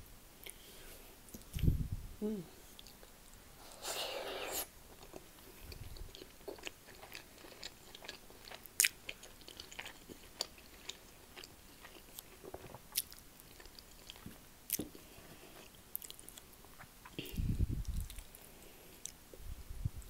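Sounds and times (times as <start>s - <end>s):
chewing soft food: 2.7s - 3.1s, 3.7s - 19.4s.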